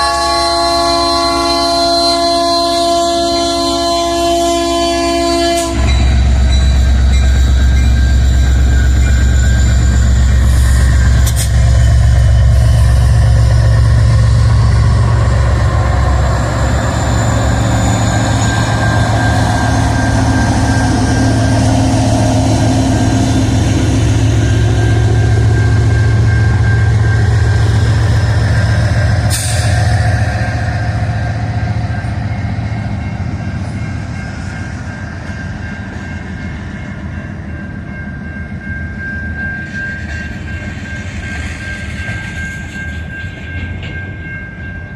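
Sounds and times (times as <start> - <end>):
diesel locomotive engines droning: 0.0 - 44.9
rail cars rolling: 0.0 - 44.9.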